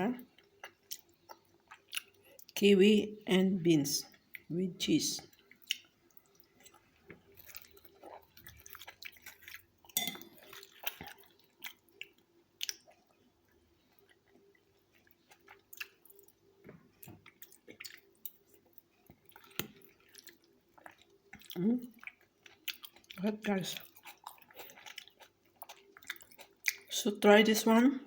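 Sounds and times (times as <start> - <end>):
chewing salad: 0.2 - 2.6, 5.2 - 27.8.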